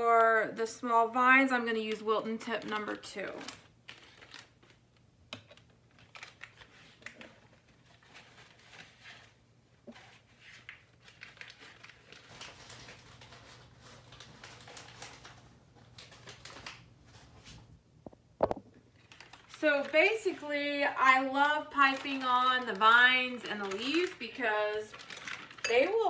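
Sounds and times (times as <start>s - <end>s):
plastic bag rustling: 1.9s - 4.8s, 5.6s - 17.7s, 18.4s - 26.0s.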